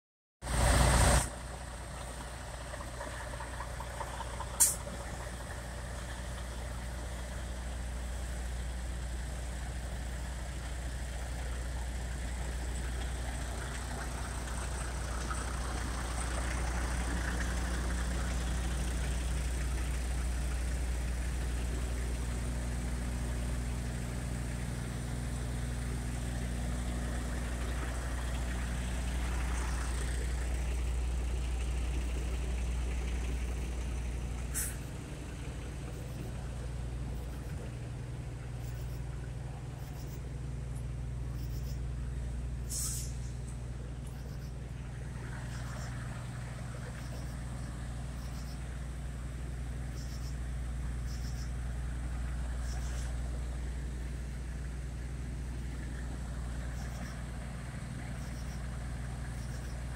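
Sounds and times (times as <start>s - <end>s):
diesel engines idling: 0.4s - 59.9s.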